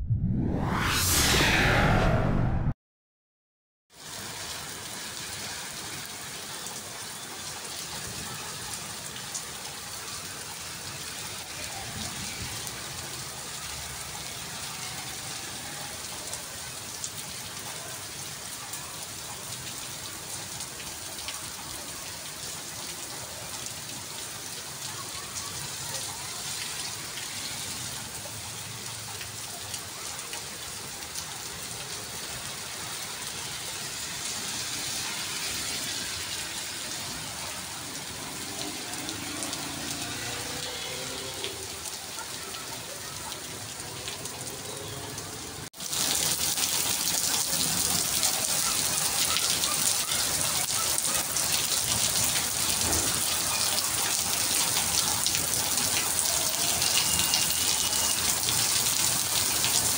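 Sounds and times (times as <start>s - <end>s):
rain on wet pavement: 4.0s - 59.9s.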